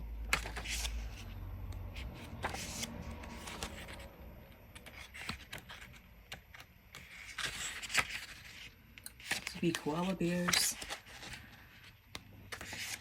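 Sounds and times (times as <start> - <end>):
paper rustling: 0.3 - 13.0.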